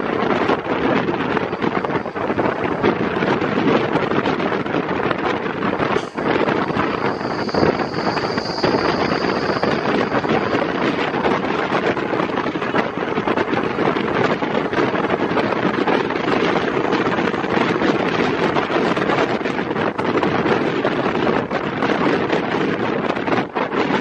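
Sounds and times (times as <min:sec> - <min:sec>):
moving train running noise: 0:00.0 - 0:24.0
wind buffeting the microphone: 0:00.0 - 0:24.0.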